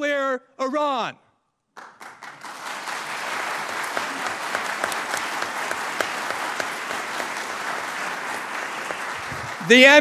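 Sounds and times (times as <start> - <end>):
audience clapping: 1.7 - 10.0.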